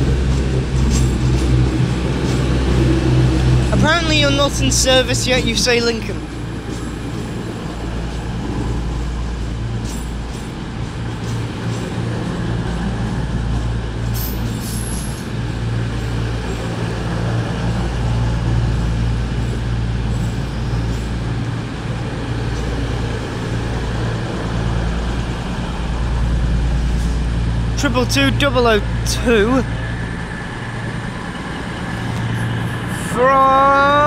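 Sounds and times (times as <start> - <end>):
diesel train engine humming: 0.0 - 34.0.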